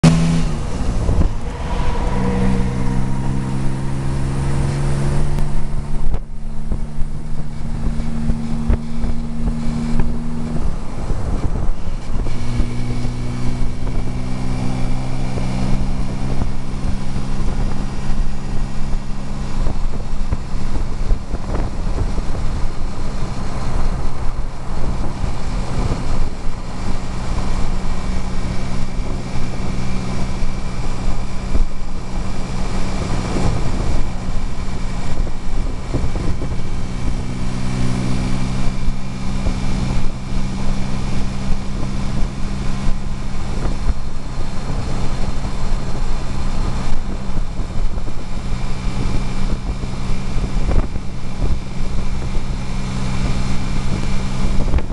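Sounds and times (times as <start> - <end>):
car engine running: 0.0 - 54.9
road noise: 0.0 - 54.9
wind noise: 0.0 - 54.9.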